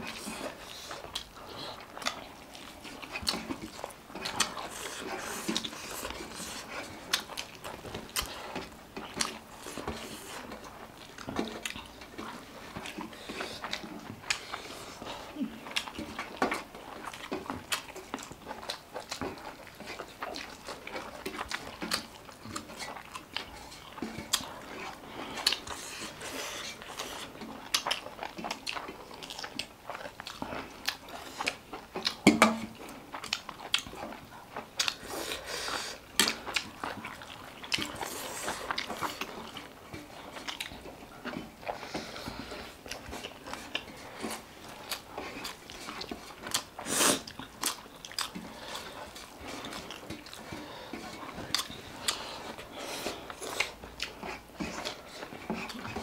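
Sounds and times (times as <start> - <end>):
chewing with crisp crunches: 0.0 - 56.0.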